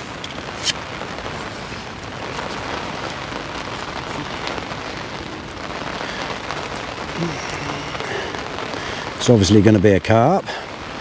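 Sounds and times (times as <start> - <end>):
rain falling on an umbrella: 0.0 - 11.0.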